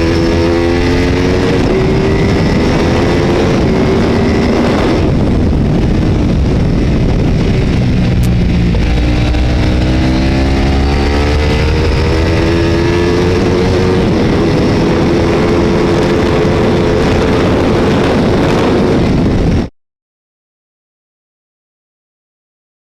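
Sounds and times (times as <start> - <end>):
motorcycle engine accelerating: 0.0 - 19.7.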